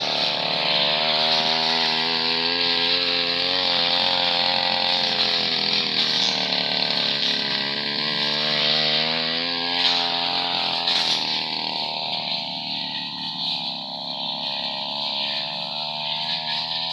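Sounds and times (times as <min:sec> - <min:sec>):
brush cutter engine cutting grass: 0:00.0 - 0:16.9.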